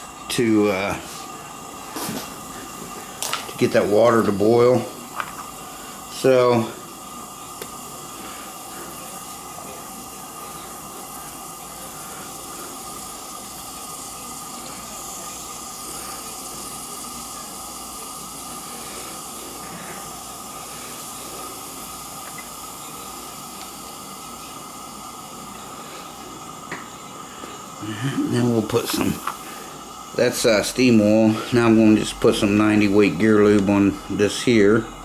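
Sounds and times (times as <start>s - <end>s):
gas burner hissing: 0.0s - 35.0s.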